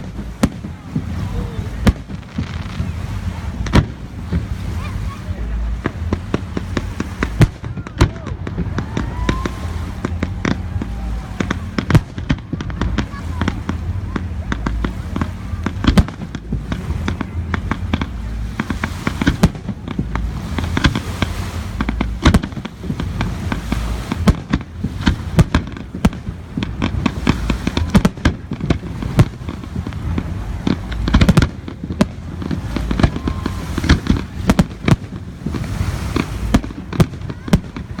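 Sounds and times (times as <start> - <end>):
deep rumble: 0.0 - 38.0
fireworks bangs and cracks: 0.0 - 38.0.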